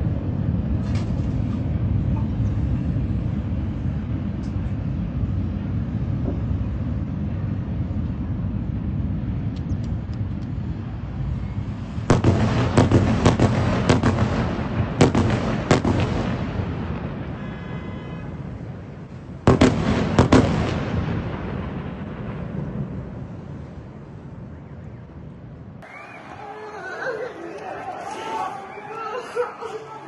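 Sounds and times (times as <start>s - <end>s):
explosions: 0.0s - 25.8s
low rumble: 0.0s - 25.8s.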